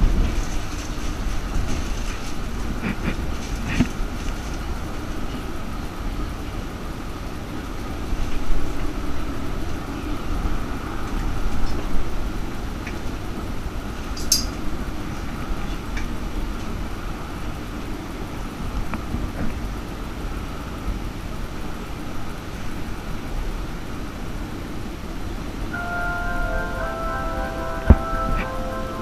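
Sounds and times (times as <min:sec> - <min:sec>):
tram rumbling along track: 0:00.0 - 0:29.0.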